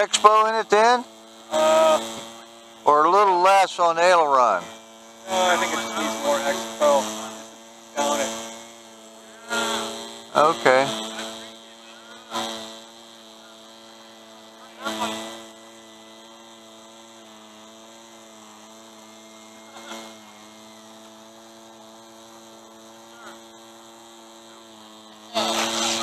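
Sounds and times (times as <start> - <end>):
steady multi-tone hum: 0.0 - 26.0.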